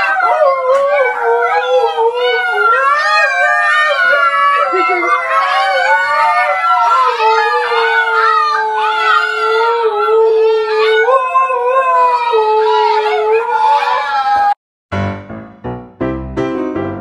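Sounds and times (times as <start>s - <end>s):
dog howling low: 0.0s - 14.6s
puppies howling high: 0.0s - 14.6s.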